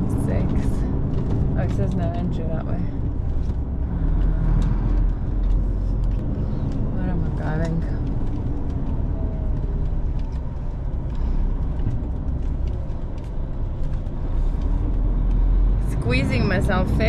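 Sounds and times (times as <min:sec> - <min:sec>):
diesel lorry engine rumbling: 0:00.0 - 0:17.0.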